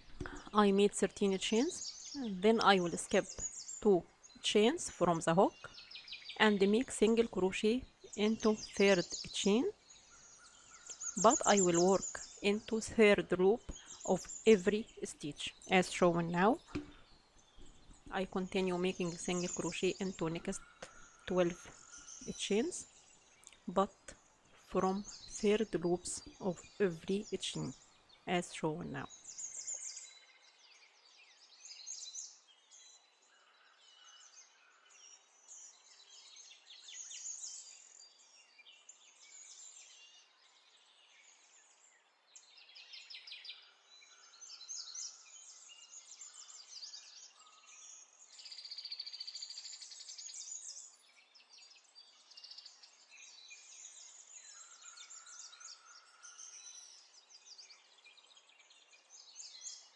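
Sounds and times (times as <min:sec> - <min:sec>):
faint birds chirping and trilling: 0:00.0 - 0:59.9.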